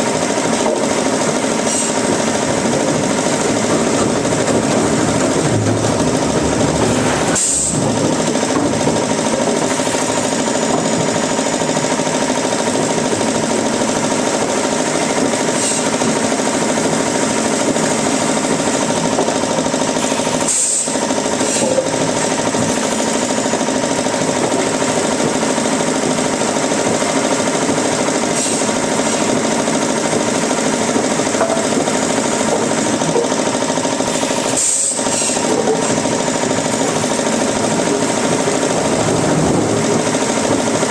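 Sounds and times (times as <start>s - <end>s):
woodworking machinery drone: 0.0s - 40.9s.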